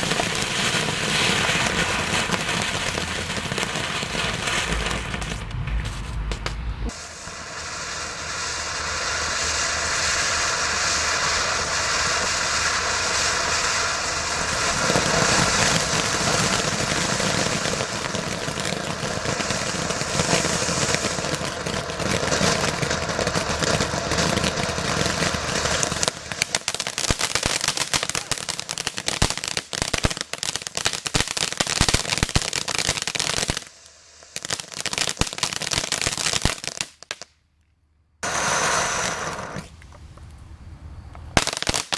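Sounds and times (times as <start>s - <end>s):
fireworks fountain hissing: 0.0s - 37.2s, 38.2s - 40.1s, 41.2s - 41.9s
fireworks crackling and popping: 0.0s - 37.4s, 38.2s - 40.3s, 41.2s - 41.9s.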